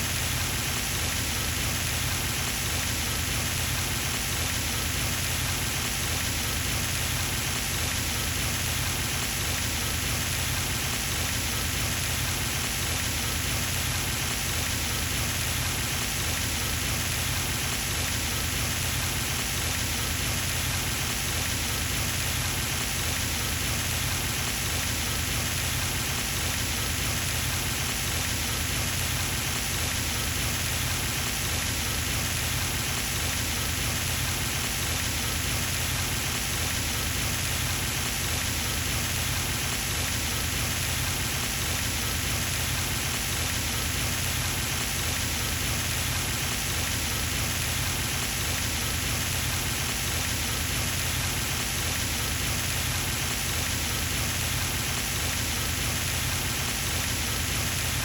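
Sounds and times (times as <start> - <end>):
fountain water splashing: 0.1 - 58.0.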